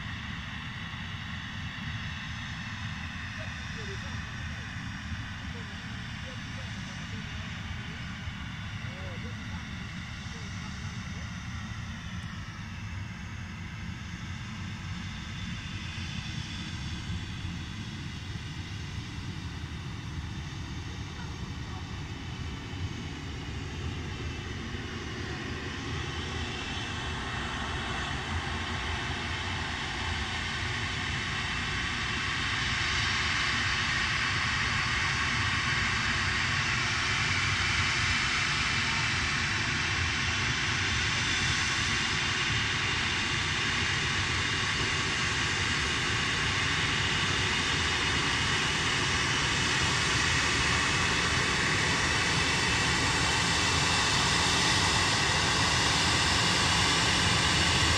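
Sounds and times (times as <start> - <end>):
jet engines whining: 0.0 - 57.9.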